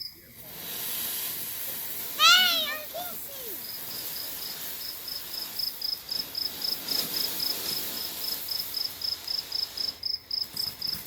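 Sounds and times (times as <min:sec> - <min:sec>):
cricket chirping: 0:00.0 - 0:00.4, 0:01.2 - 0:11.0.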